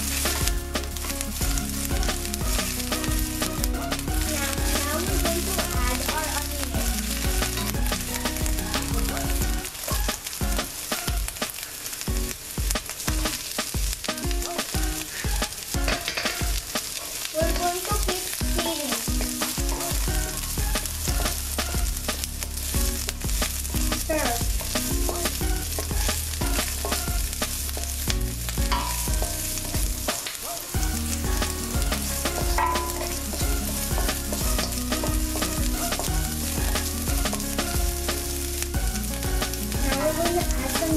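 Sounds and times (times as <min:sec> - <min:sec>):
onion sizzling in hot oil: 0:00.0 - 0:40.9.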